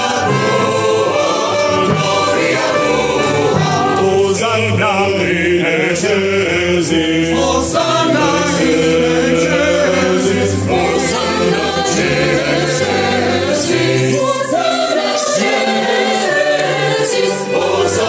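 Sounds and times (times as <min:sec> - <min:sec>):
mixed choir singing: 0:00.0 - 0:18.0
orchestral accompaniment: 0:00.0 - 0:18.0.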